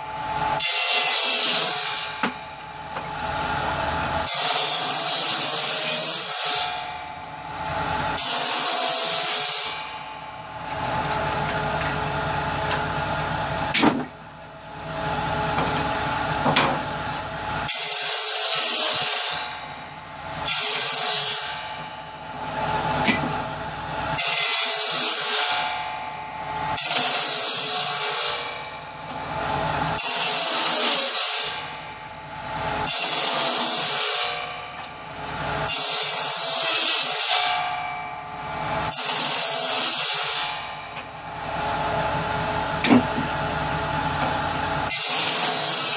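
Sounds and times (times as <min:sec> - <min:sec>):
power saw running: 0:00.0 - 0:45.9
saw cutting wood: 0:00.0 - 0:45.9.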